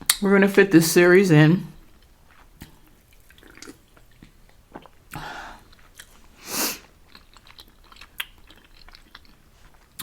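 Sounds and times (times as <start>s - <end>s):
soft chewing: 1.8s - 10.0s.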